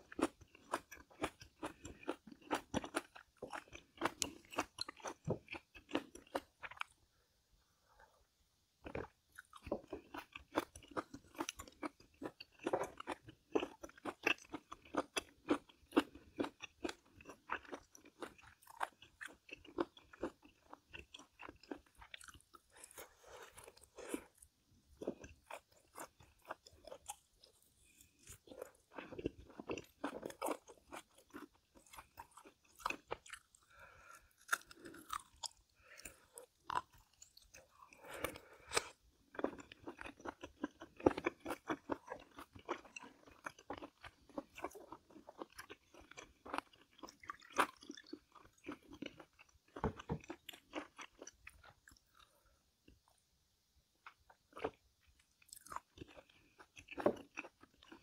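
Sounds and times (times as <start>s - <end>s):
person chewing crunchy food: 0.0s - 7.0s, 8.8s - 53.3s, 54.0s - 58.0s.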